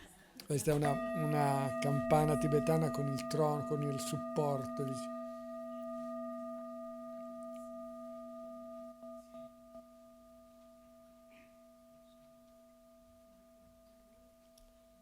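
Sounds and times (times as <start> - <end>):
singing bowl ringing: 0.6 - 15.0.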